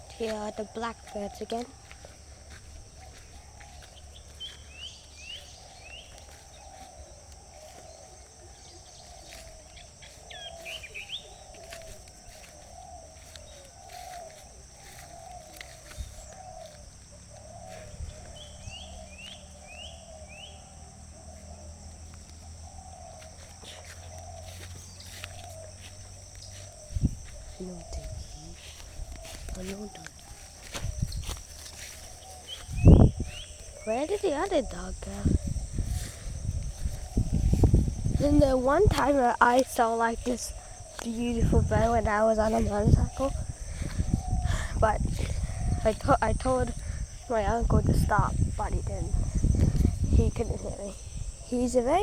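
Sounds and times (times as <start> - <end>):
wavering bird chorus: 0.0 - 52.0.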